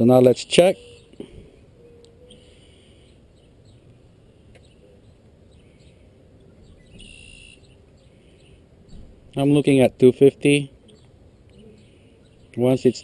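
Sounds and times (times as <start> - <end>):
faint bird chirps: 0.6 - 9.2, 10.8 - 12.7.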